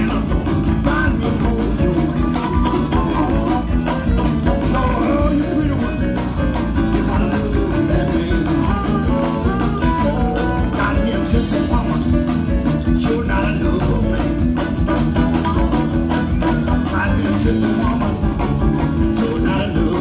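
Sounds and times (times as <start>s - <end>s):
keyboard: 0.0s - 20.0s
live blues band: 0.0s - 20.0s
steady drum beat: 0.0s - 20.0s.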